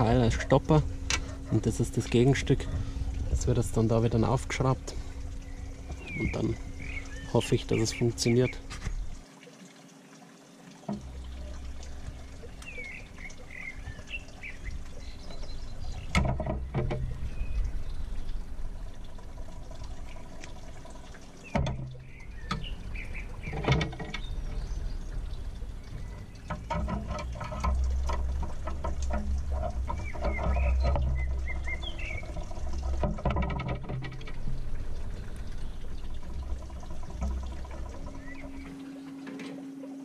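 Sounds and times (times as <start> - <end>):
birds chirping: 0.0 - 9.2, 11.0 - 39.8.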